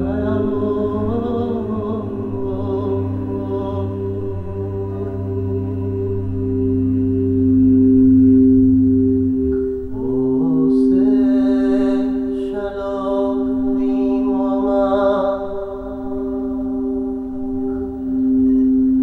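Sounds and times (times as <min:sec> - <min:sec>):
person singing a slow chant: 0:00.0 - 0:19.0
singing bowls ringing: 0:00.0 - 0:19.0.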